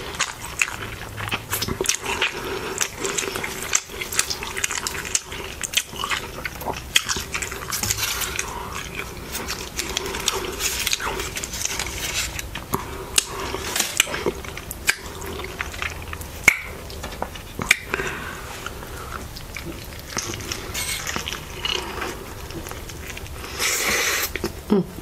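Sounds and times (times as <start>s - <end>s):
chewing and wet mouth sounds: 0.0s - 25.0s.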